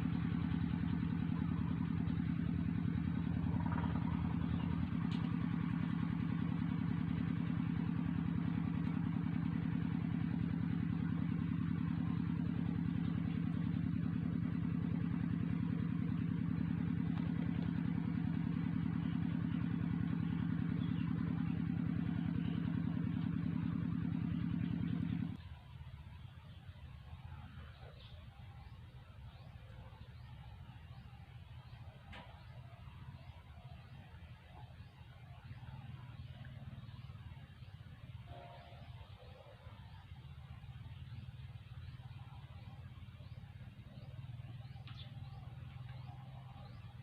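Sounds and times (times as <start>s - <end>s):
small engine idling: 0.0s - 47.0s.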